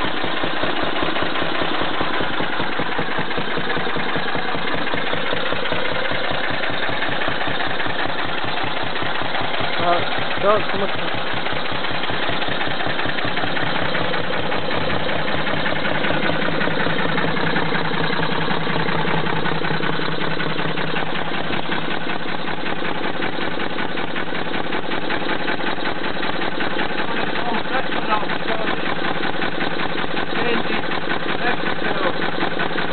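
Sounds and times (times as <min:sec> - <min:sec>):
stationary engine running: 0:00.0 - 0:32.9.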